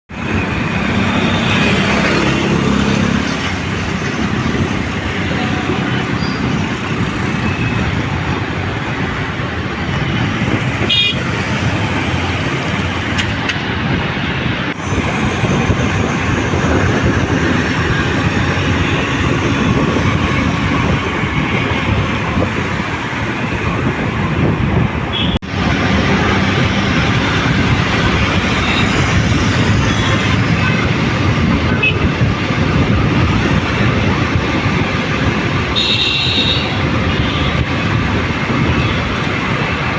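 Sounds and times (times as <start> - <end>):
passing vehicles traffic noise: 0.1 - 39.9
wind: 0.1 - 39.9.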